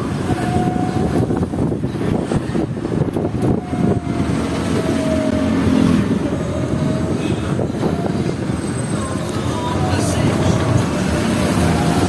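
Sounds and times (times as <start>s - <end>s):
vehicle road rumble: 0.0s - 12.0s.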